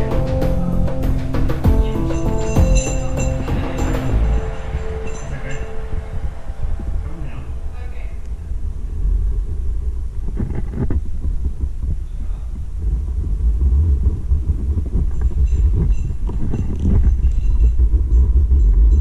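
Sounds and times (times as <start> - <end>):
wind rumble on microphone: 2.7 - 19.0.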